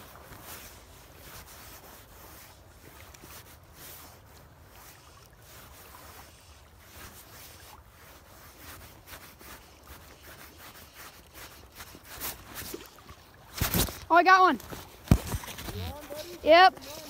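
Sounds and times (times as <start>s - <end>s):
river water lapping: 0.0s - 17.0s.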